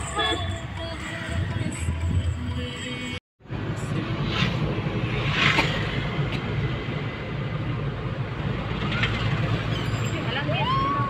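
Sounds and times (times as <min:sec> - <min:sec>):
vehicle rumble from inside cabin: 0:00.0 - 0:11.0.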